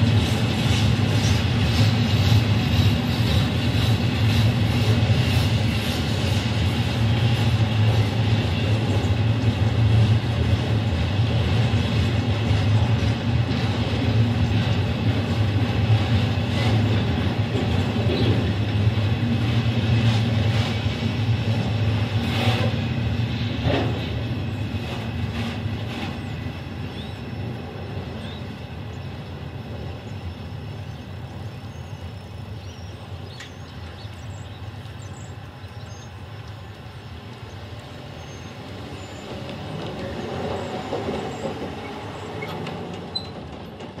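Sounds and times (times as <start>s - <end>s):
freight cars rumbling over rails: 0.0s - 44.0s.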